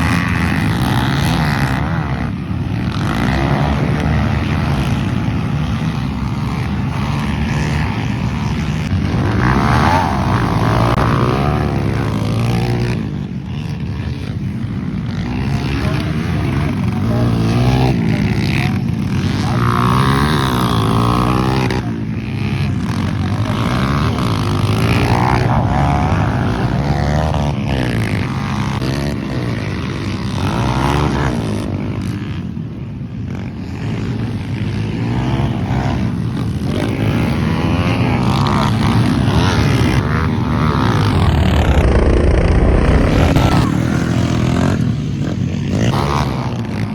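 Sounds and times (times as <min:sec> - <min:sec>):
dirt bike engine revving: 0:00.0 - 0:32.4, 0:33.4 - 0:46.9.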